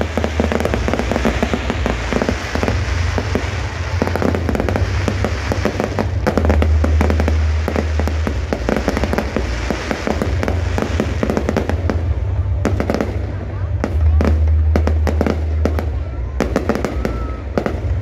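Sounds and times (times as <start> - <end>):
fireworks crackling and popping: 0.0 - 18.0
low rumble: 0.0 - 18.0.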